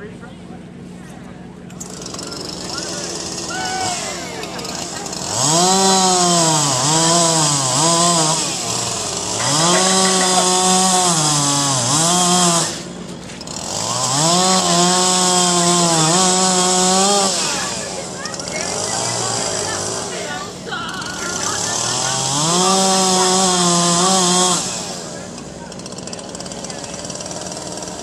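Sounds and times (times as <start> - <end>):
chainsaw cutting wood: 1.7 - 28.0.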